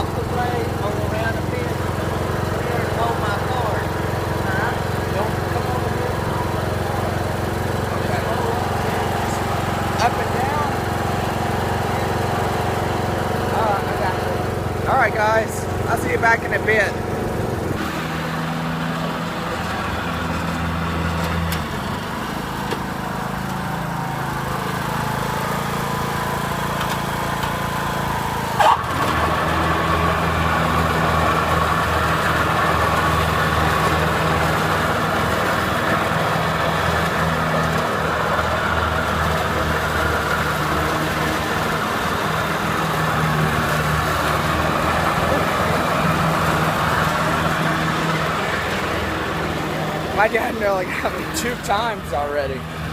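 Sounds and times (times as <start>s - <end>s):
riding lawnmower engine running: 0.0s - 52.9s.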